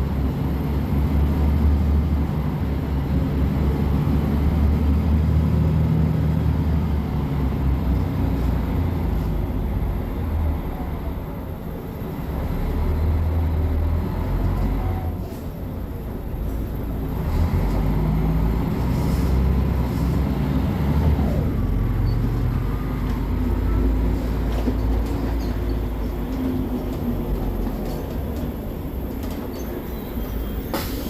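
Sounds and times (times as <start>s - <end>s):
bus diesel engine rumbling: 0.0s - 31.0s.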